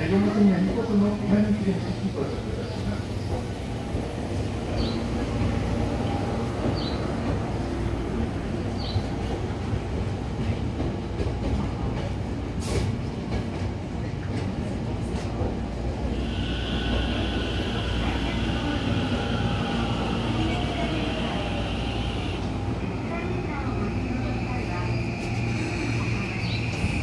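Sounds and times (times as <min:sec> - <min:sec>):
electric train rumble: 0:00.0 - 0:27.0.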